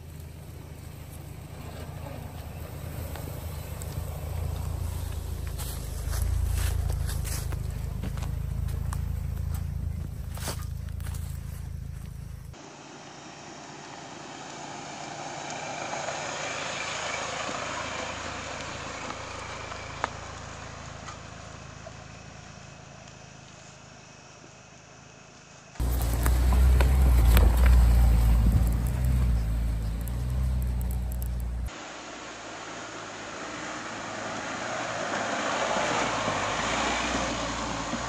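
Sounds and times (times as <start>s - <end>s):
engine and tyres rumbling on dirt: 0.0s - 38.0s.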